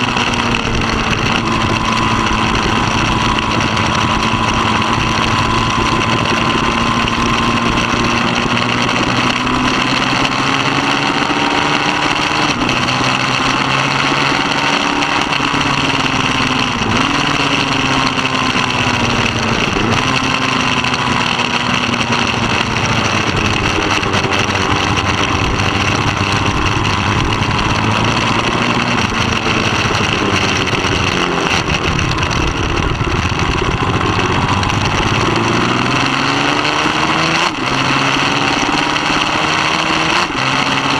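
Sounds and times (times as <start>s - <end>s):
motorcycle engine revving: 0.0s - 40.9s
rushing noise: 0.0s - 40.9s.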